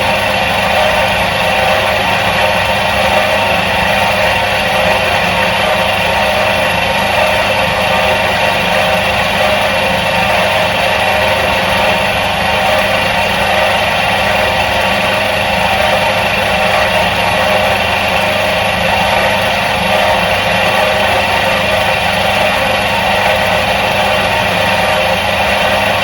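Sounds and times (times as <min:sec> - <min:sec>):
washing machine motor humming: 0:00.0 - 0:26.0.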